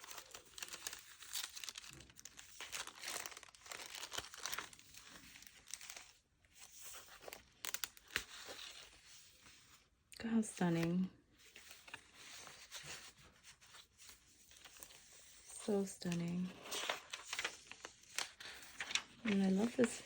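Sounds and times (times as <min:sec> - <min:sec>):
paper rustling and crinkling: 0:00.0 - 0:20.0.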